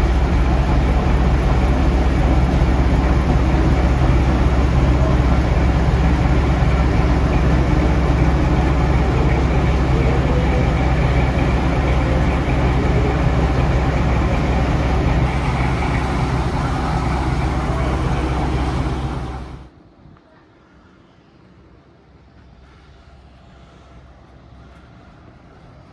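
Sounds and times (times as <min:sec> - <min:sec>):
diesel locomotive engine running: 0:00.0 - 0:25.9.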